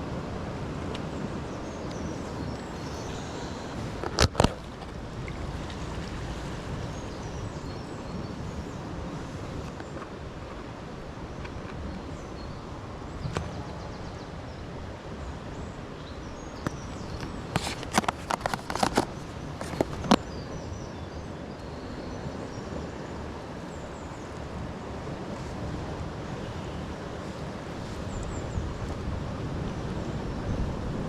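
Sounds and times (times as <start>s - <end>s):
sea: 0.0s - 31.0s
wind: 0.0s - 31.0s.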